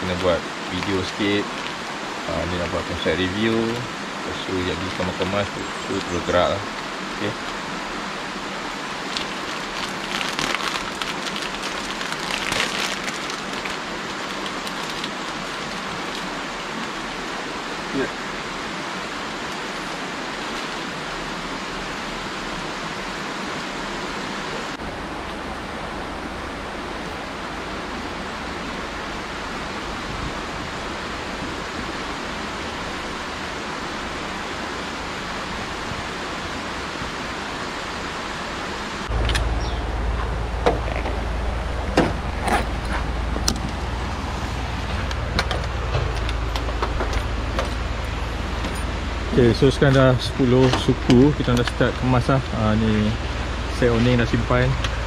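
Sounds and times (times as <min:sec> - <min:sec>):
low steady rumble: 0:00.0 - 0:55.0
rocky stream rushing: 0:00.0 - 0:55.0.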